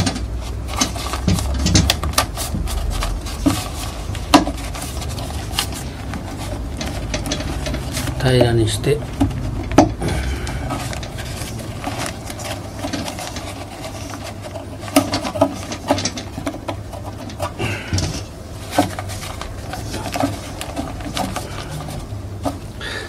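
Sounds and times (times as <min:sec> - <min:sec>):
paper bag rustling: 0:00.0 - 0:23.0
steady low hum: 0:00.0 - 0:23.0.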